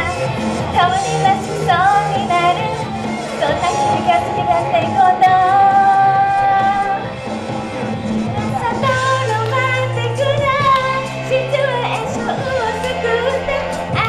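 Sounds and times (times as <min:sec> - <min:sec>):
woman singing into a microphone: 0:00.0 - 0:07.1, 0:08.4 - 0:14.0
pop backing track over loudspeakers: 0:00.0 - 0:14.0.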